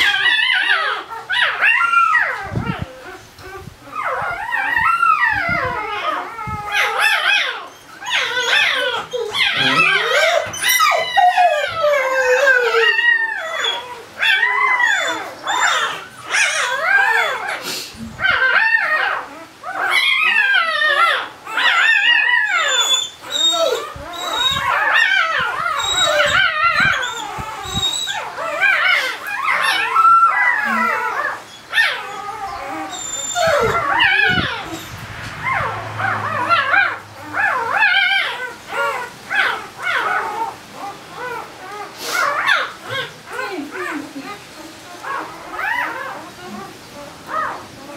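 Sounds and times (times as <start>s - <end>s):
puppy squealing and whimpering: 0.0s - 47.9s.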